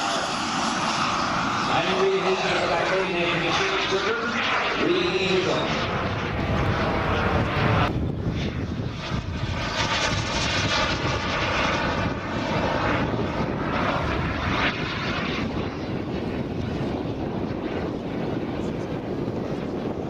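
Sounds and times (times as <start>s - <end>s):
faint high turbine whine: 0.0s - 20.0s
jet turbine rush: 0.0s - 20.0s.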